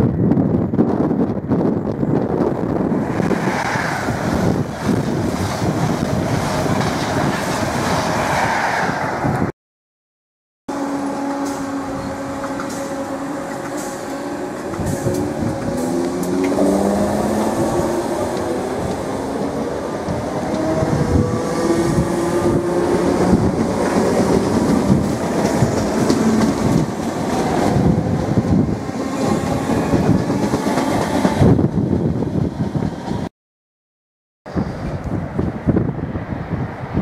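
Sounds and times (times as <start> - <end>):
train cars rumbling: 0.0 - 9.5, 10.7 - 33.3.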